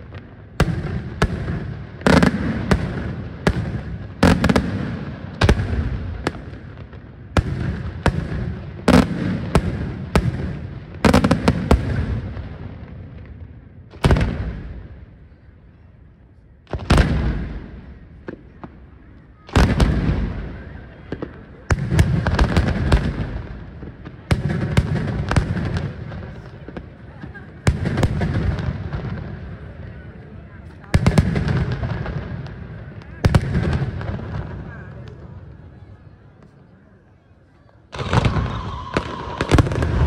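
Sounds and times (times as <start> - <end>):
fireworks bursting with bangs: 0.0 - 15.4, 16.6 - 36.5, 37.7 - 40.0.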